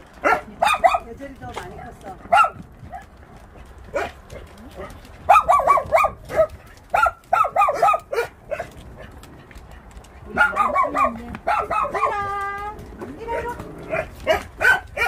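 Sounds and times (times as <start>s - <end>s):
dogs barking: 0.1s - 1.2s, 2.2s - 15.0s.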